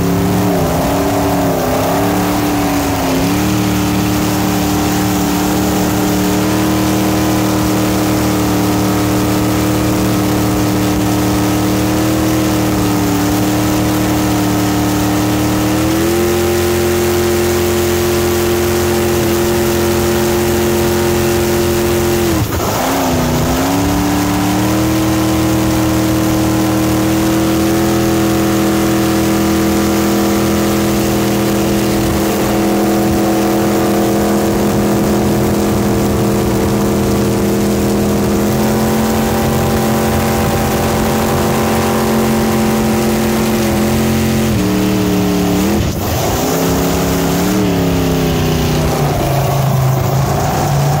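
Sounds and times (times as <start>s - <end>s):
boat engine running hard: 0.0s - 51.0s
wind and water rushing: 0.0s - 51.0s.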